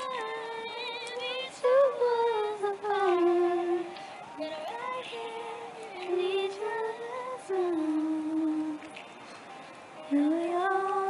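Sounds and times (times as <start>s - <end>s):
woman singing slow melody: 0.0s - 9.1s, 10.0s - 11.0s.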